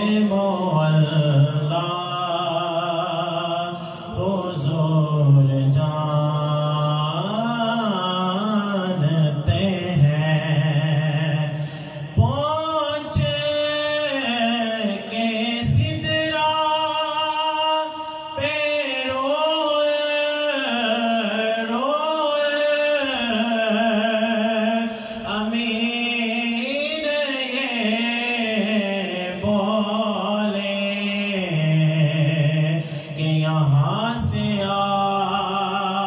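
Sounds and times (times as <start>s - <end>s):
man chanting into microphone: 0.0s - 36.0s.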